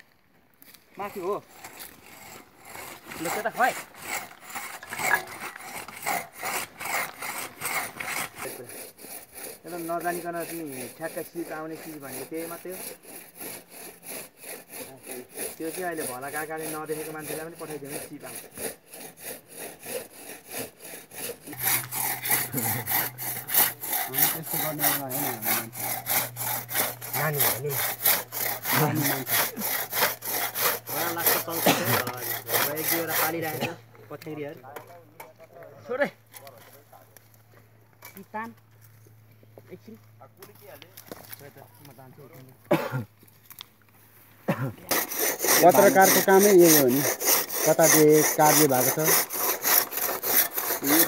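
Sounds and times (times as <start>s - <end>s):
hand saw cutting wood: 1.0s - 37.4s, 44.8s - 51.0s.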